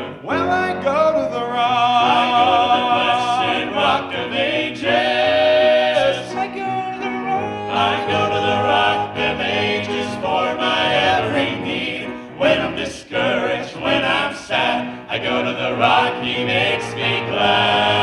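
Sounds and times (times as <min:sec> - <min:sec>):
vocal group singing gospel: 0:00.0 - 0:18.0.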